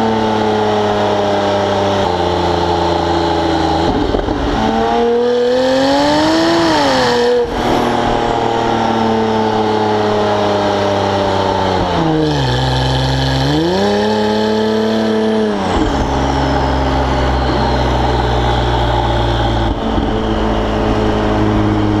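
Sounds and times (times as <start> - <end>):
sports car engine exhaust: 0.0 - 22.0.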